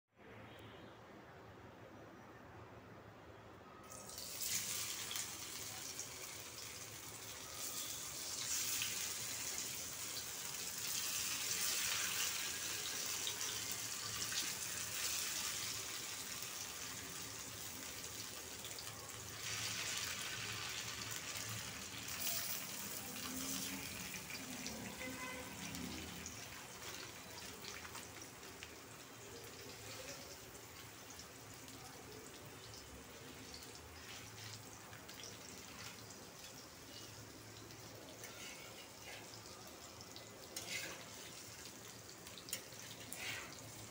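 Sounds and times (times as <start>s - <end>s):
food sizzling in hot oil: 3.9s - 43.9s.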